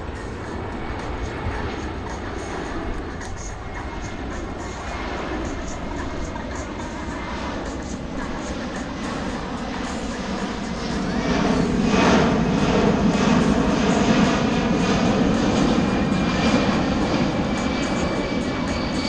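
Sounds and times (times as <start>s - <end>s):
jet aircraft flyby rush: 0.0s - 19.0s.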